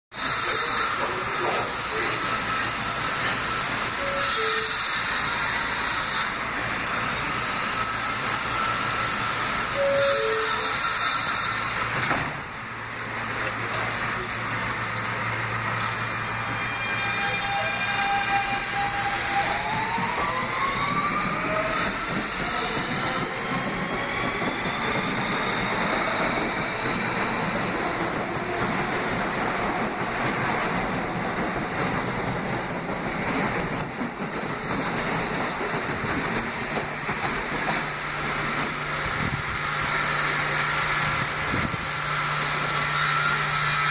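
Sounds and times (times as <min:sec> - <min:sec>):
train whine and hiss: 0:00.1 - 0:43.9.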